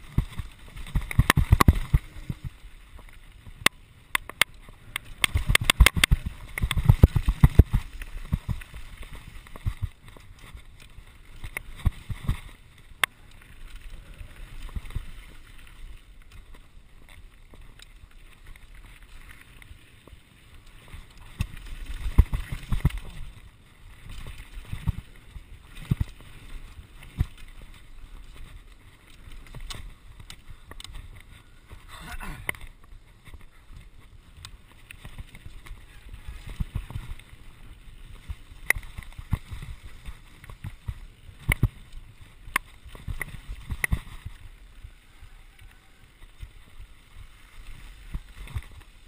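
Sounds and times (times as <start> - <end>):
mountain bike rattling and knocking: 0.0 - 44.5, 46.3 - 49.0
tyres crunching on gravel: 0.0 - 49.0
wind rumbling on microphone: 0.0 - 49.0.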